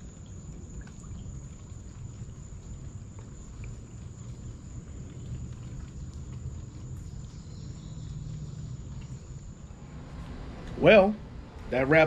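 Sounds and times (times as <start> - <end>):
low creek rumble: 0.0 - 12.0.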